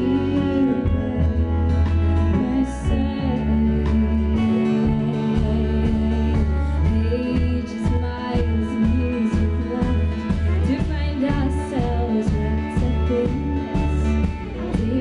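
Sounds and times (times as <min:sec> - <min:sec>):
live folk-rock band playing: 0:00.0 - 0:15.0
woman singing: 0:00.0 - 0:15.0.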